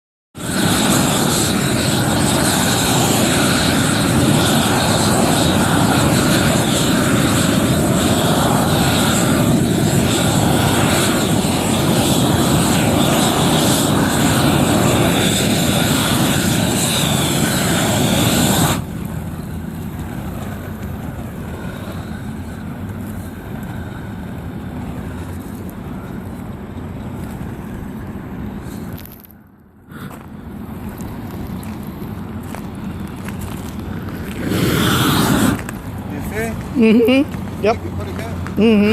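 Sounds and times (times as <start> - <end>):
roofing torch roaring: 0.4 - 38.9.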